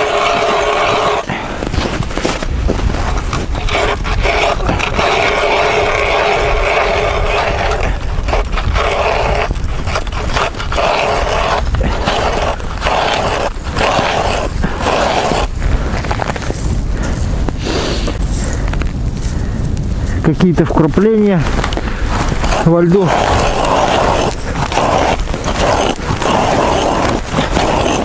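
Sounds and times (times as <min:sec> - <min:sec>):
tool scraping on ice: 0:00.0 - 0:18.2, 0:21.3 - 0:28.0
wind rumble on microphone: 0:00.0 - 0:28.0.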